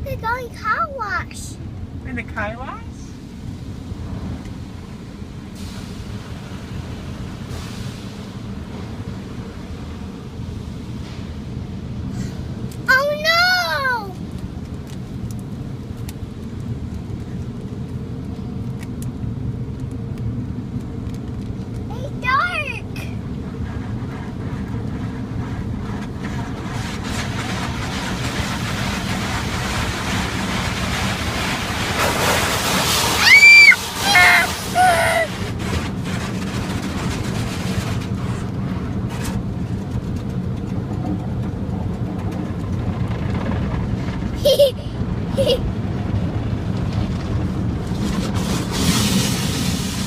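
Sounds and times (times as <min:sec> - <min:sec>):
car wash rumble: 0:00.0 - 0:50.0.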